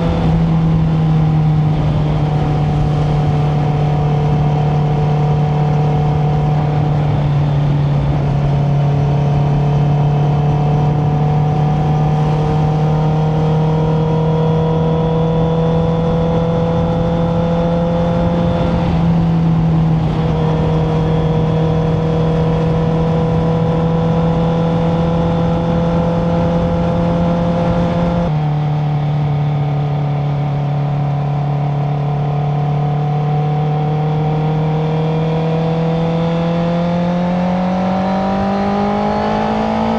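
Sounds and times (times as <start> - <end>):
constant low hum: 0.0 - 34.4
motorcycle engine running: 0.0 - 39.9.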